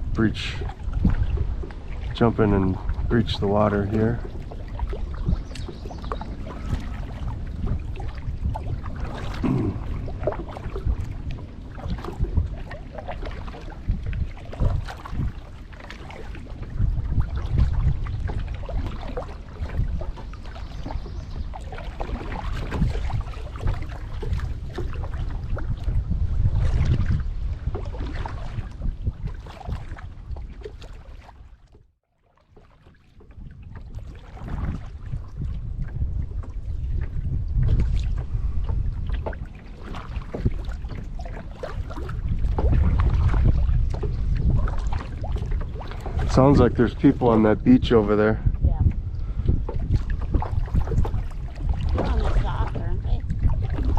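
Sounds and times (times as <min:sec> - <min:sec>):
wind rumble on microphone: 0:00.0 - 0:31.9, 0:32.5 - 0:53.9
paddle strokes splashing water: 0:00.0 - 0:53.9.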